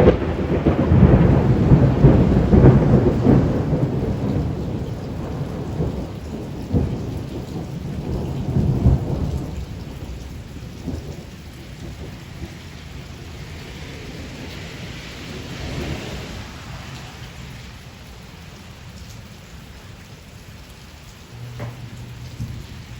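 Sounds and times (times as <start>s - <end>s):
steady rain: 0.0s - 22.9s
thunder rumbling: 0.0s - 22.9s.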